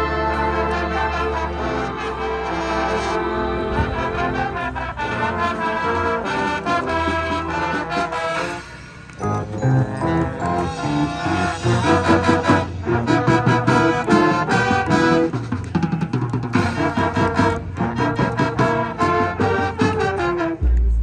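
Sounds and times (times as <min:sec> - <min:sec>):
marching band brass melody: 0:00.0 - 0:21.0
steady percussion beat: 0:02.0 - 0:21.0.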